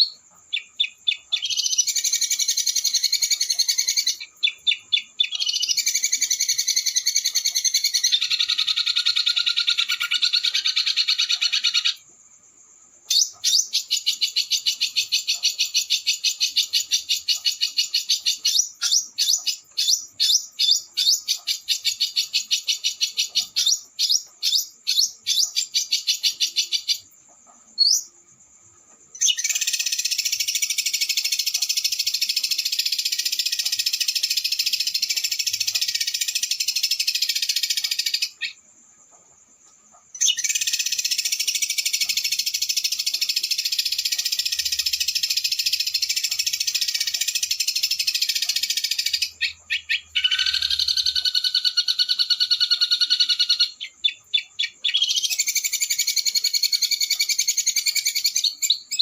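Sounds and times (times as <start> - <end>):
songbird trilling: 0.0 - 12.1, 13.1 - 27.1, 27.8 - 28.2, 29.2 - 38.6, 40.1 - 59.0.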